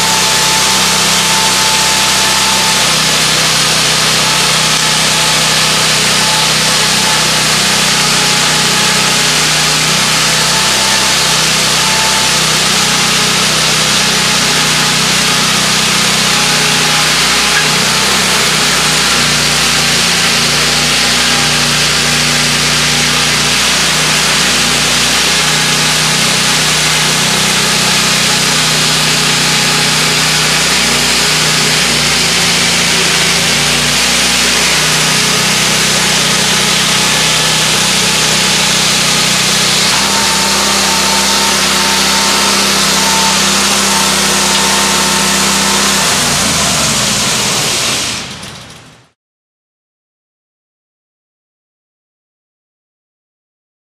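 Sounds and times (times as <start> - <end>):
saw chain cutting lumber: 0.0 - 48.8
saw engine running under load: 0.0 - 49.1.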